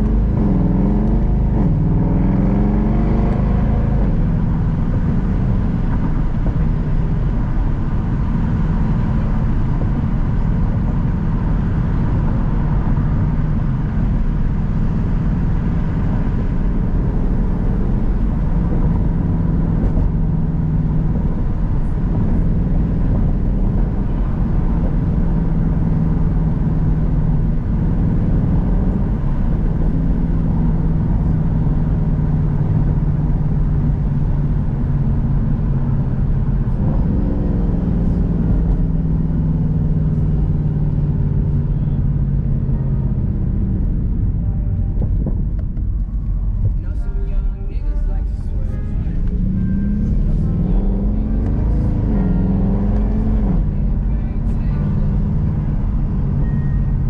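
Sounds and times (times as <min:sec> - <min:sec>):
car engine droning: 0:00.0 - 0:57.0
road noise: 0:00.0 - 0:57.0.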